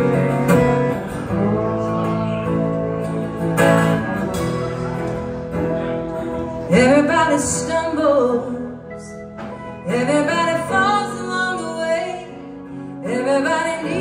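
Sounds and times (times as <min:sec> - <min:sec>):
live band playing: 0:00.0 - 0:14.0
strummed guitar: 0:00.0 - 0:14.0.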